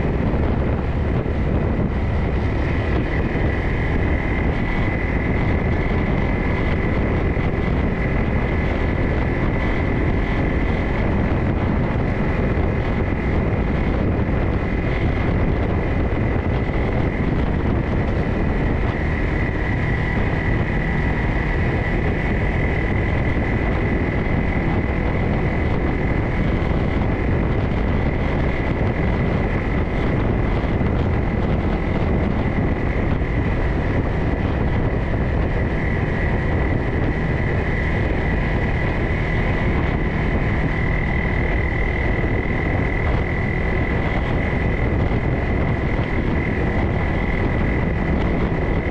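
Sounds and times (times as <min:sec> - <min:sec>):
high whine: 0:00.0 - 0:48.9
off-road vehicle engine running: 0:00.0 - 0:48.9
wind on microphone: 0:00.0 - 0:48.9.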